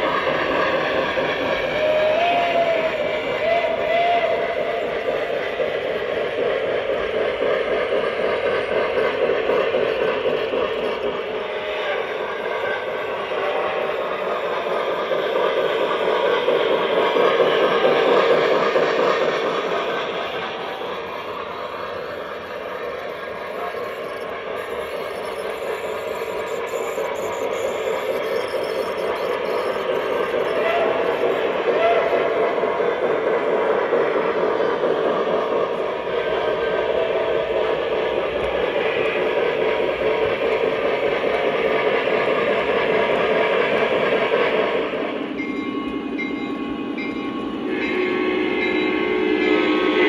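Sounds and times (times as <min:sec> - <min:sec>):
model trains rolling on track: 0:00.0 - 0:50.0.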